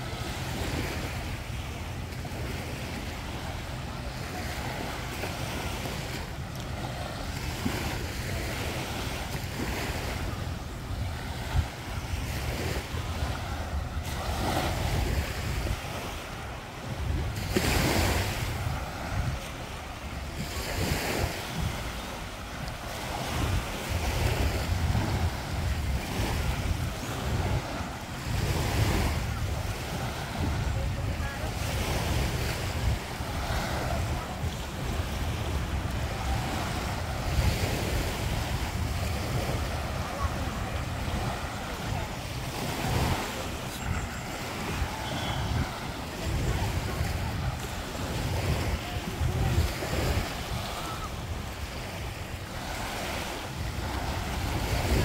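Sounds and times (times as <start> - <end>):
waves breaking on beach: 0.0 - 55.0
wind rumbling on microphone: 0.0 - 55.0.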